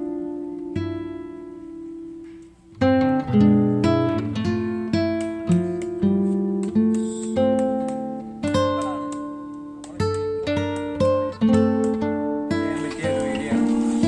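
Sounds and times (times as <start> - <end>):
plucked string instrument music: 0.0 - 14.0.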